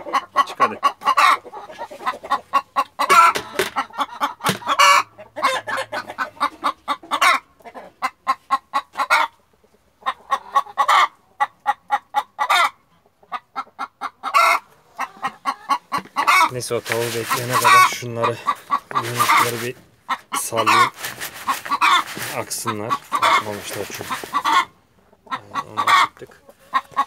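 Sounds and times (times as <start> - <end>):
chicken squawking: 0.0 - 27.0
chickens clucking: 0.0 - 27.0.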